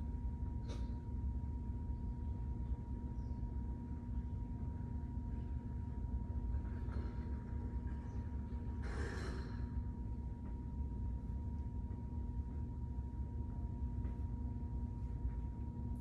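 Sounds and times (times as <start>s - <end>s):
faint hum: 0.0s - 16.0s
low background rumble: 0.0s - 16.0s.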